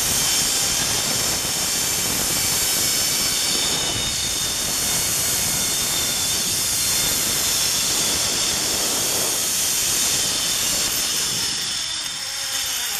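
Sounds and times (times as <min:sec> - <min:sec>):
pulleys running along cable: 0:00.0 - 0:12.9.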